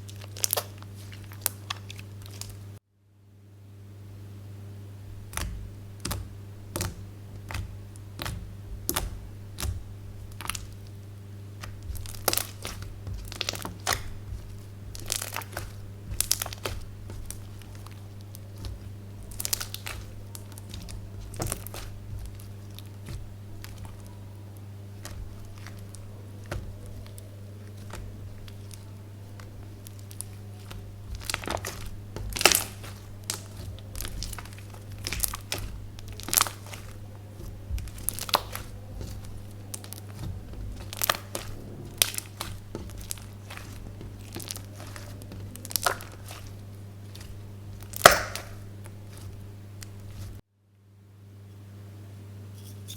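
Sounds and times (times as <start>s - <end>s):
low hum: 2.2s - 50.4s
slime squelching pops and crackles: 5.2s - 24.1s, 25.0s - 50.4s.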